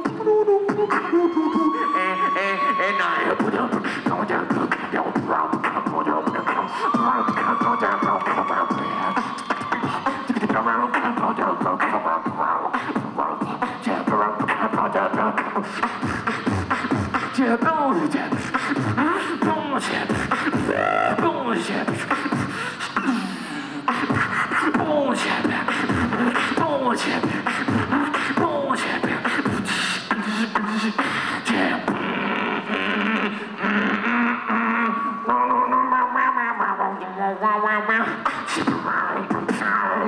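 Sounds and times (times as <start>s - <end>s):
beatboxing over speakers: 0.0s - 40.0s.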